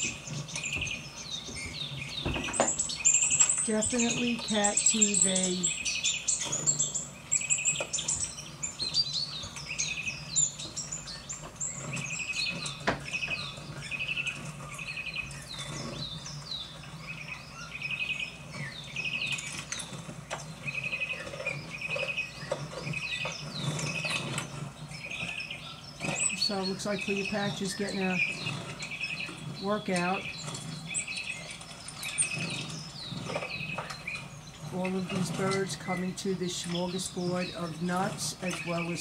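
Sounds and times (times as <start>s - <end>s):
songbirds chirping on television: 0.0s - 39.0s.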